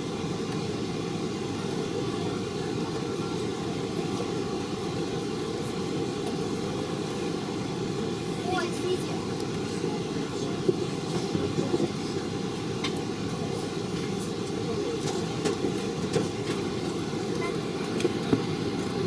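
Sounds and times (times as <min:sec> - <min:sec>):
jet cabin rumble: 0:00.0 - 0:19.0.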